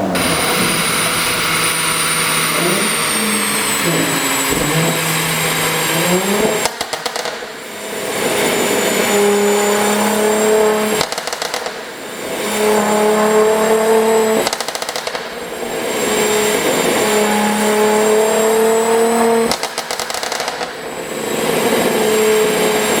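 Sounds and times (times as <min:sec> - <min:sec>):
exhaust crackles and pops: 0:00.0 - 0:22.0
car engine revving: 0:00.0 - 0:23.0.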